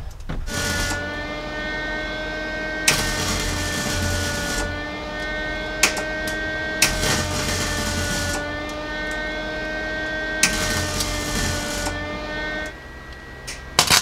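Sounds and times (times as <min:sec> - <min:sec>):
welding arc crackle with pops: 0:00.0 - 0:01.4, 0:02.8 - 0:09.2, 0:10.4 - 0:14.0
steady droning hum: 0:00.0 - 0:14.0.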